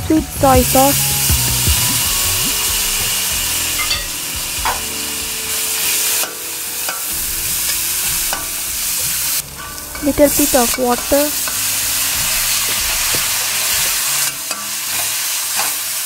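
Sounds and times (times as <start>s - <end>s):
food sizzling in oil in a wok: 0.7s - 16.0s
metal spatula scraping a wok: 3.1s - 16.0s.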